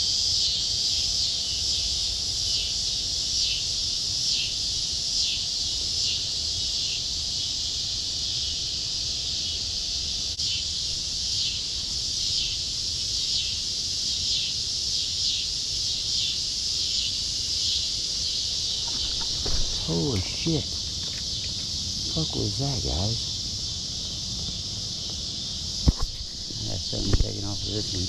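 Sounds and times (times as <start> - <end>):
insects shrilling: 0.0 - 28.0.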